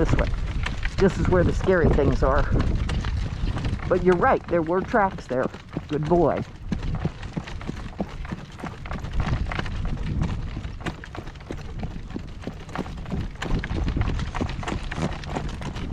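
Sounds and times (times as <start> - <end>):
horse hooves clopping: 0.0 - 15.9
wind buffeting microphone: 0.0 - 15.9.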